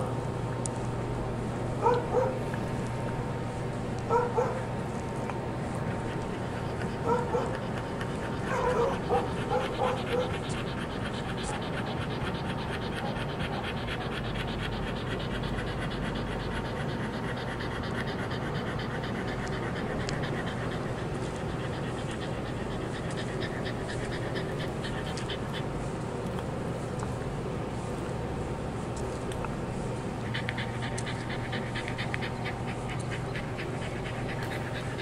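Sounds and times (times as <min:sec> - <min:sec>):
dog panting: 0:00.0 - 0:35.0.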